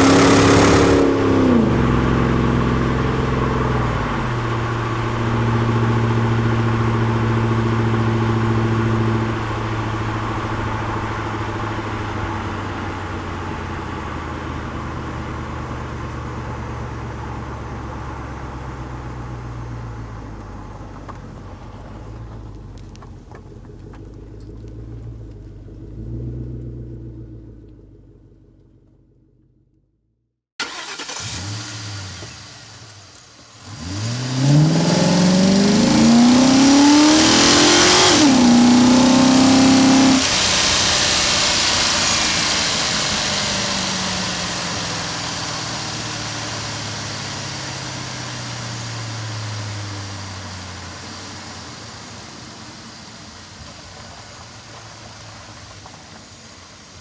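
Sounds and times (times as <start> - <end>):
car engine starting and accelerating: 0.0 - 29.8, 30.6 - 57.0.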